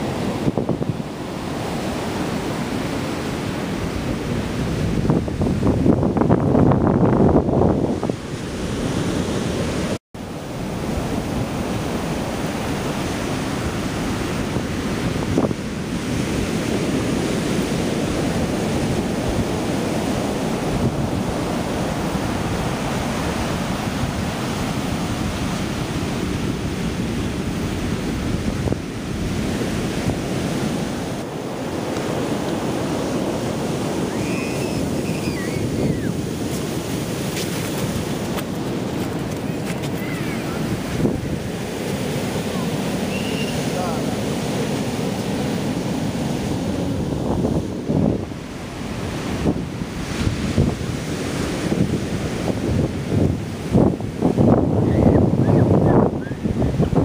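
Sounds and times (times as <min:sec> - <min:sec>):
surf breaking on beach: 0:00.0 - 0:57.0
wind buffeting microphone: 0:00.0 - 0:57.0.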